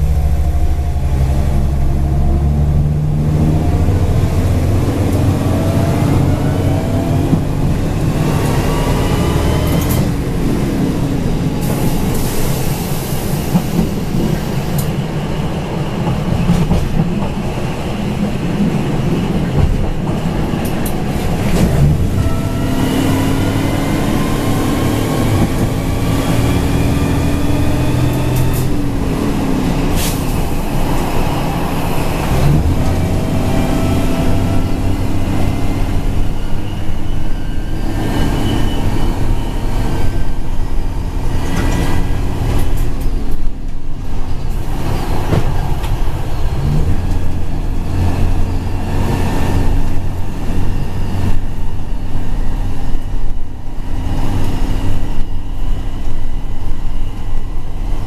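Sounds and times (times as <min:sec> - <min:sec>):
diesel railcar engine: 0:00.0 - 0:58.0
wheel and rail rumble: 0:00.0 - 0:58.0
rail clicks: 0:09.6 - 0:26.4, 0:27.6 - 0:58.0.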